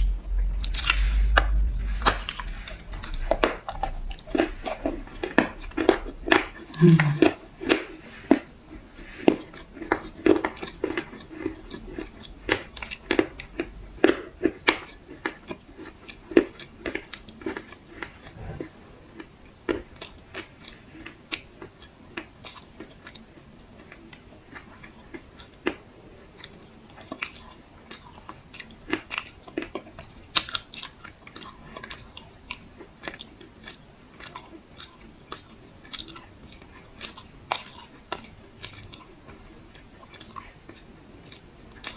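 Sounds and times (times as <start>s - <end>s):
crunchy chewing: 0.0s - 41.9s.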